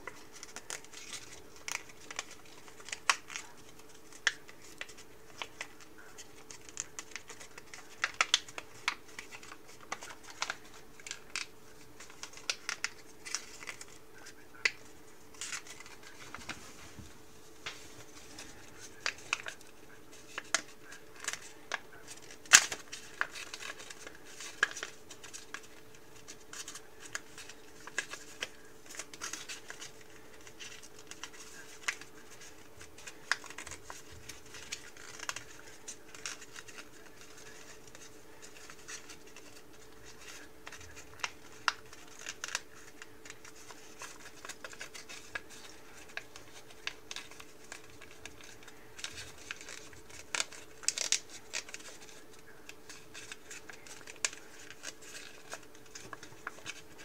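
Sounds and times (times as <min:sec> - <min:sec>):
faint steady hum: 0:00.0 - 0:57.0
paper folding crackles: 0:00.0 - 0:57.0.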